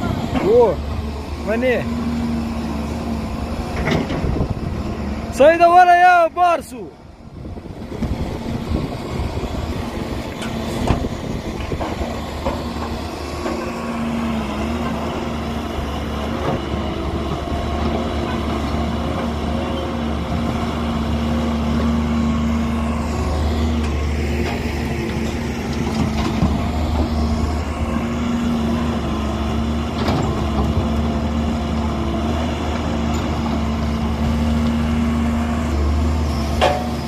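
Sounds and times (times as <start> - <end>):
diesel machinery engine hum: 0.0 - 37.0.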